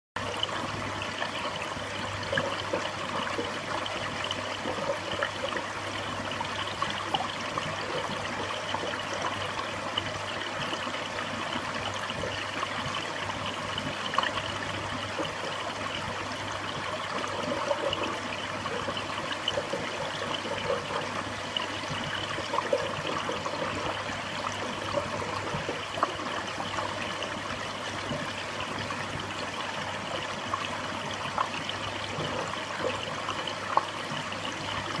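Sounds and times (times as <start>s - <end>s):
aquarium water trickling and bubbling: 0.2s - 35.0s.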